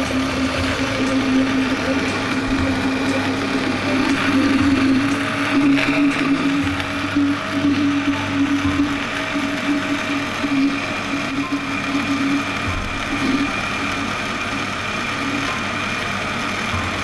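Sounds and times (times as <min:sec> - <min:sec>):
blender whirring with a rattle: 0:00.0 - 0:17.0.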